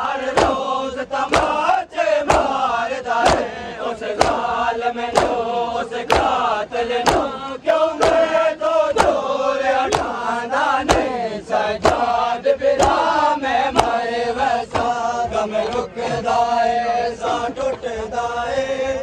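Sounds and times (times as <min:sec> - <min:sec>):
hands slapping chests in unison: 0:00.0 - 0:16.0
men chanting: 0:00.0 - 0:19.0.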